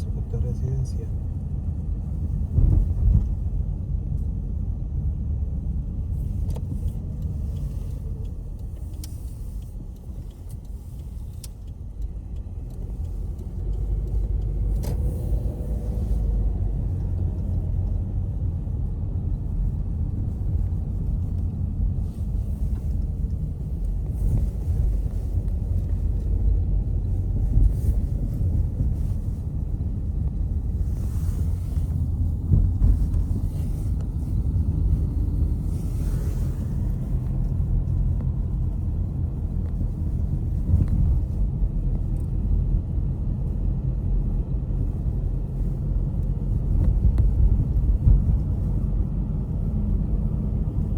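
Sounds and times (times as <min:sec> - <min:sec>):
car road noise rumble: 0:00.0 - 0:50.9.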